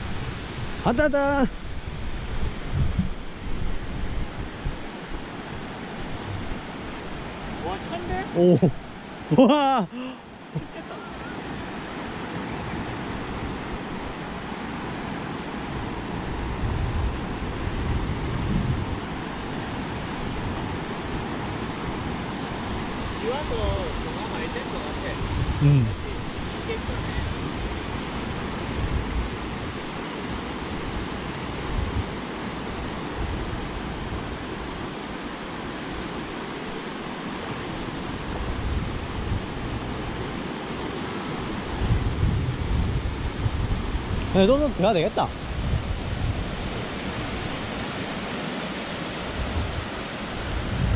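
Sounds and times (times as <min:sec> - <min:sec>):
wind buffeting microphone: 0:00.0 - 0:09.2, 0:11.4 - 0:35.0, 0:38.0 - 0:40.5, 0:41.2 - 0:48.4, 0:49.1 - 0:50.9
sea surf washing: 0:00.0 - 0:50.9.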